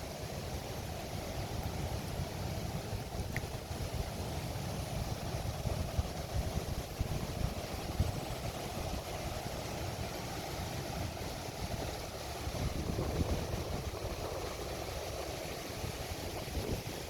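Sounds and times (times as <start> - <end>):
sea waves washing on beach: 0.0 - 17.0
wind buffeting microphone: 0.5 - 17.0.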